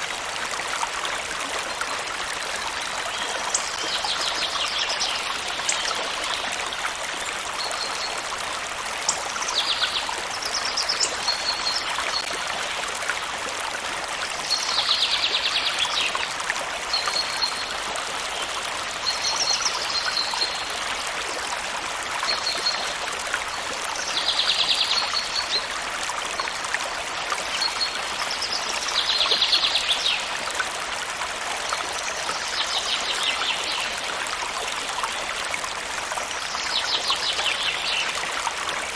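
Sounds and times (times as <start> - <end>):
stream of water running: 0.0 - 38.9.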